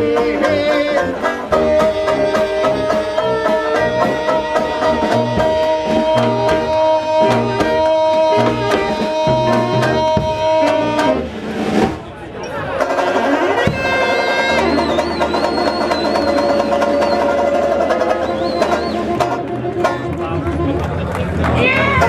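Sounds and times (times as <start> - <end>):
steady drum beats: 0.0 - 22.0
trad jazz band playing: 0.0 - 22.0
tuba bass line: 0.0 - 22.0.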